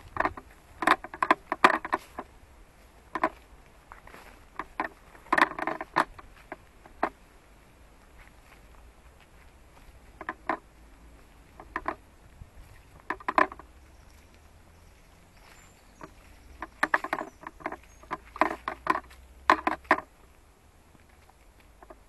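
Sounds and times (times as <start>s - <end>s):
footsteps on dry leaves and twigs: 0.0s - 21.8s.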